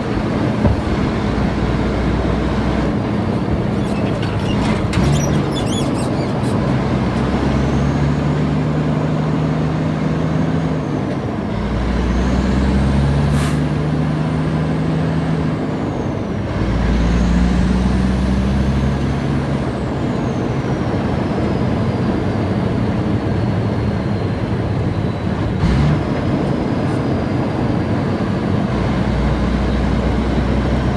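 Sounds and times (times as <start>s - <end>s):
diesel truck engine accelerating: 0.0s - 30.9s.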